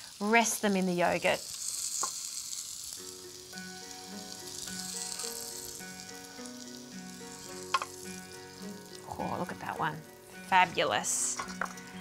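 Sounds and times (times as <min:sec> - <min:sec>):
meat sizzling on a grill: 0:00.0 - 0:12.0
light background music: 0:00.3 - 0:12.0.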